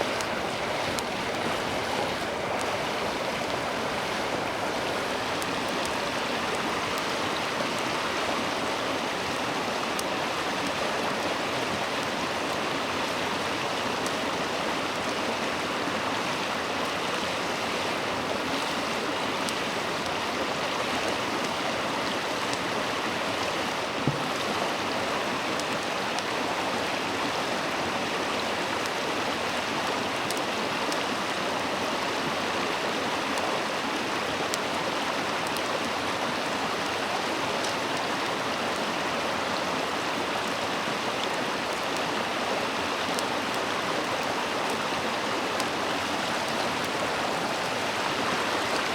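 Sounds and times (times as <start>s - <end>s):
river burbling over its bed: 0.0s - 48.9s.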